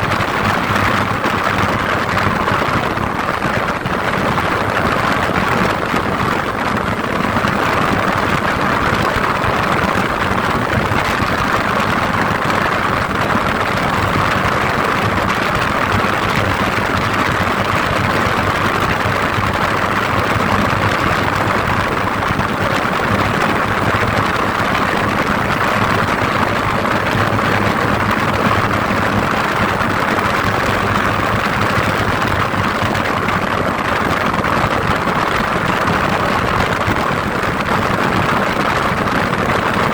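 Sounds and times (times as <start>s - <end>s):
travel noise: 0.0s - 39.9s
vehicle engine running: 0.0s - 39.9s.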